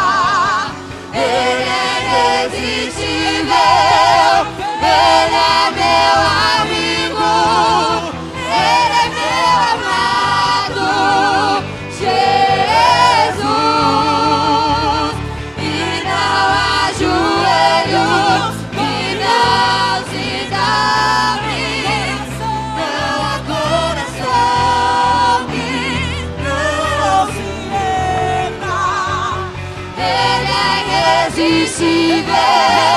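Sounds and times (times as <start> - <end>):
choir singing gospel song: 0.0 - 32.9
steady bass line: 0.0 - 32.9.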